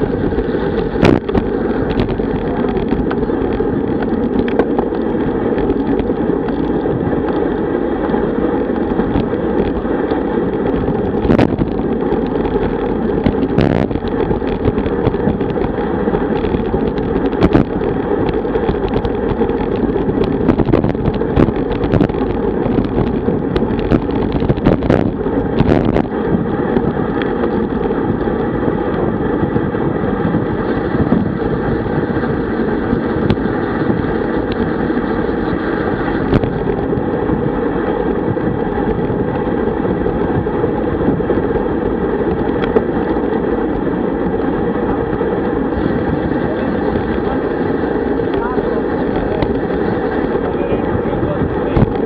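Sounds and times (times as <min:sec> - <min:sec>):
bike knocks and rattles: 0:00.0 - 0:52.0
road and tyre rumble: 0:00.0 - 0:52.0
wind rushing over microphone: 0:00.0 - 0:52.0.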